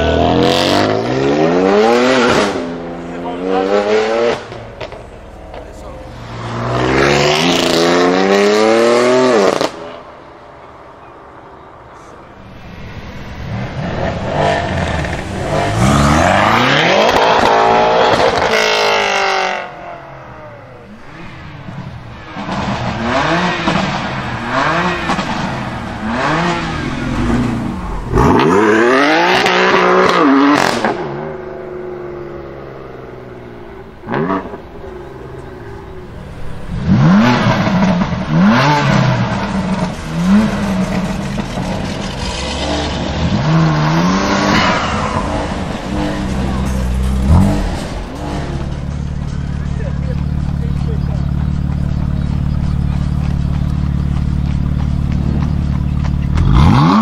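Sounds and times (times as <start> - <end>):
cars accelerating hard: 0.0 - 57.0.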